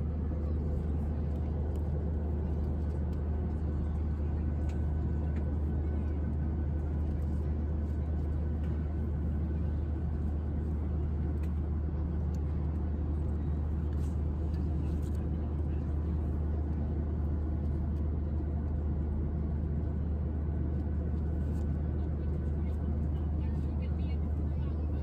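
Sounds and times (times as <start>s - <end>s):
jet airliner cabin drone: 0.0s - 25.0s.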